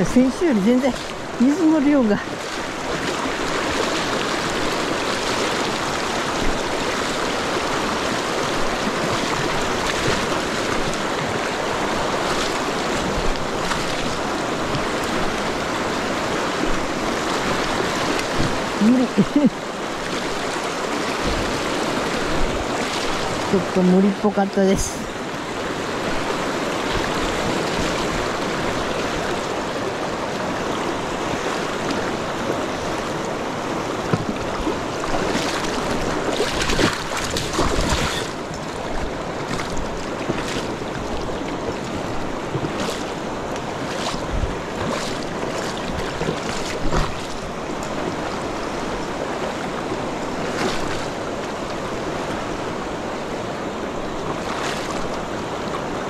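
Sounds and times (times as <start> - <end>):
river rapids rushing: 0.0 - 56.0
water splashes: 0.0 - 56.0.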